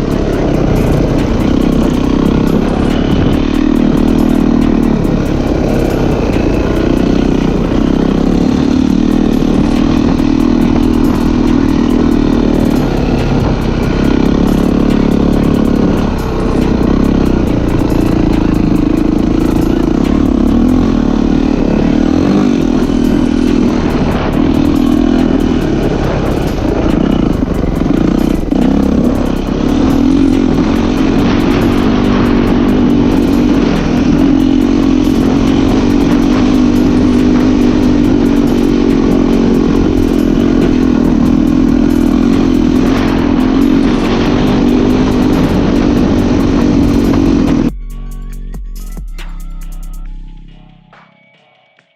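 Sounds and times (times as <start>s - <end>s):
motocross bike engine running: 0.0s - 50.5s.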